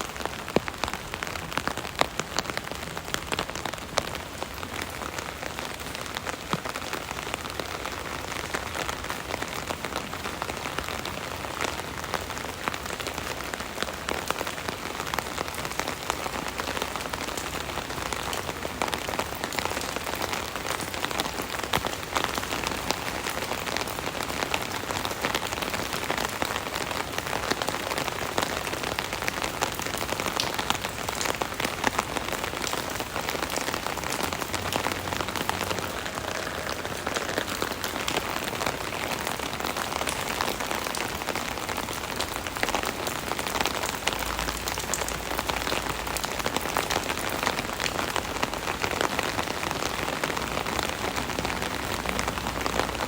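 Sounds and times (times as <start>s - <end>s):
rain pattering on an umbrella: 0.0s - 53.0s.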